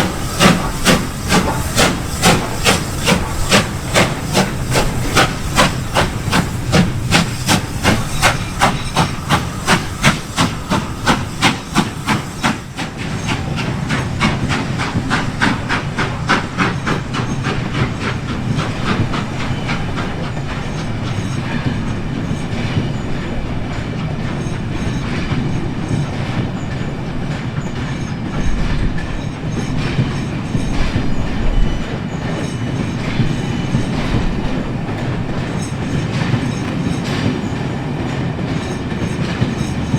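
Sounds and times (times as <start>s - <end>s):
steam locomotive chuffing: 0.0s - 39.9s
train carriages rumbling and clattering: 0.0s - 39.9s.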